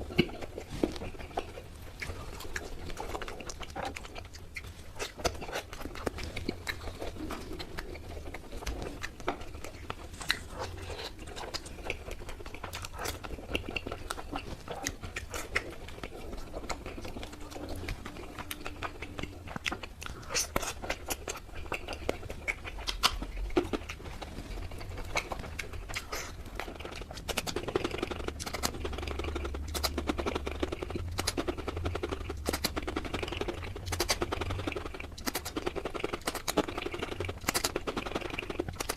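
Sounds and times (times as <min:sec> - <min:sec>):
person chewing and biting: 0:00.0 - 0:38.9
wet mouth clicks and smacks: 0:00.0 - 0:38.9.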